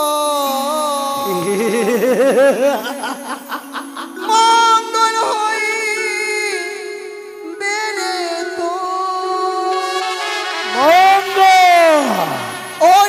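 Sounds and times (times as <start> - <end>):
folk melody with wavering pitch: 1.2 - 12.8.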